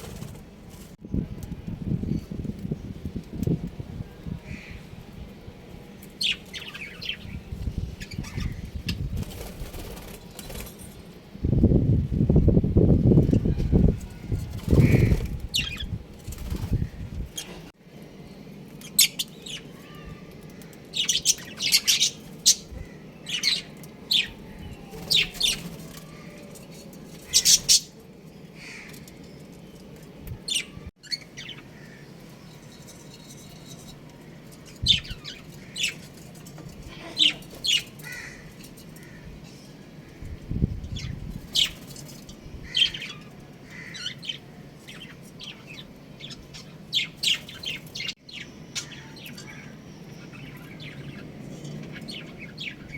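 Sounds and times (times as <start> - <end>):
small birds chirping: 1.9 - 10.7, 11.4 - 52.9.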